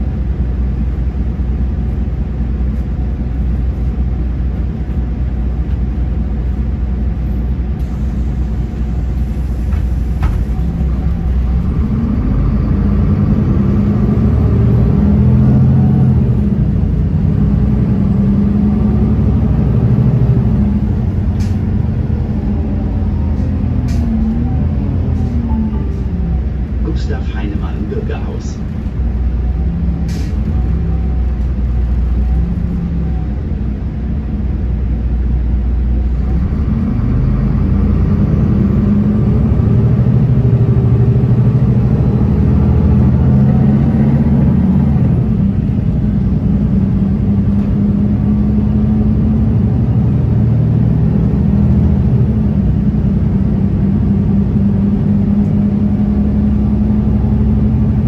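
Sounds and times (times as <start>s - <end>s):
bus engine accelerating: 0.0s - 58.0s.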